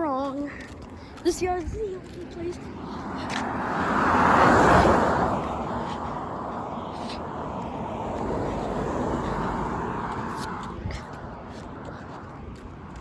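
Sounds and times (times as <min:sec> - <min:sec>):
car passing on road: 0:00.6 - 0:13.0.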